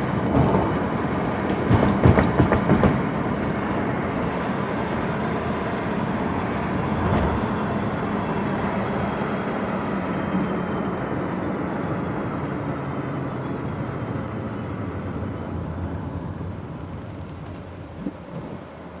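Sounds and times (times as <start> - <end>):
car front-end whine: 0.0 - 19.0
car road noise: 0.0 - 19.0.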